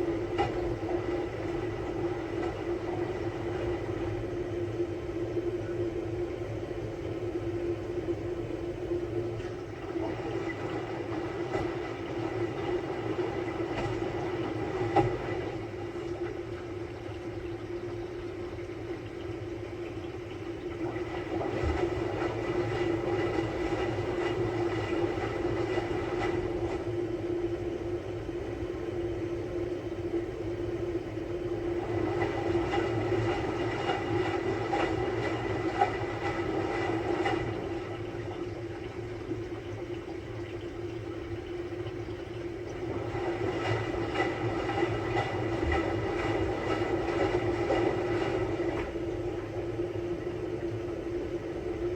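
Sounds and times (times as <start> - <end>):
washing machine running: 0.0 - 51.9.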